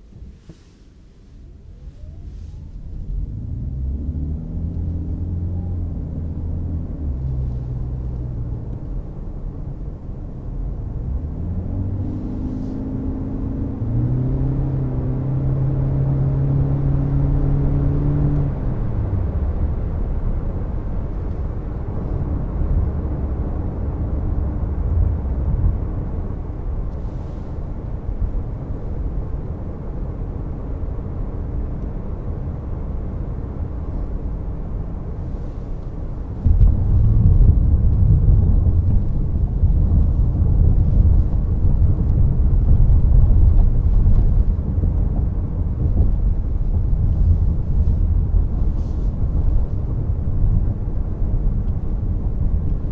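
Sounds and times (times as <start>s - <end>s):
pitched engine hum: 0.0s - 52.9s
road and tyre rumble: 0.0s - 52.9s.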